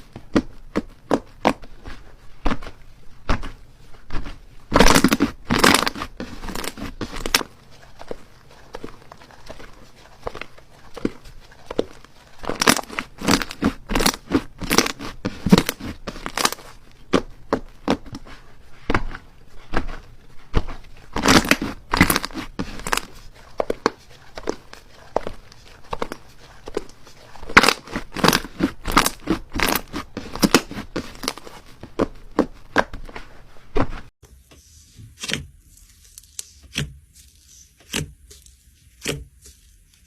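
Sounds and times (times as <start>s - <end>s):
slime squished by hand: 0.0s - 33.0s.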